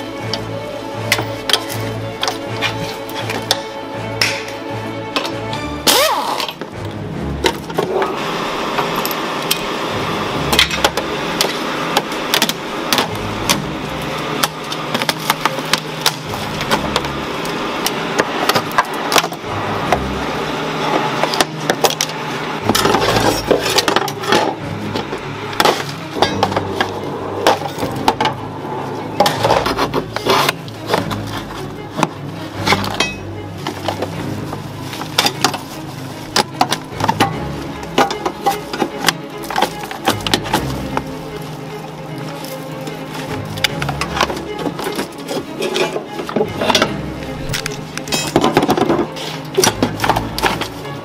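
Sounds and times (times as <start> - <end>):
car parts clanking and cracking: 0.0 - 9.7, 10.4 - 51.0
background music: 0.0 - 51.0.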